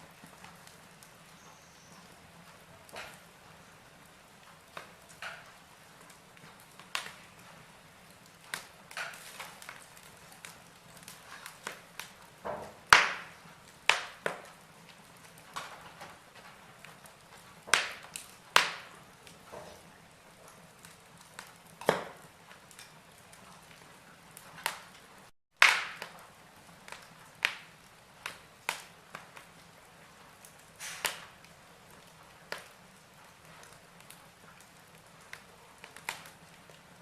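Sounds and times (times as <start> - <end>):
logs crackling in fireplace: 0.0 - 37.0
sharp fire pops: 2.5 - 3.7, 4.5 - 37.0.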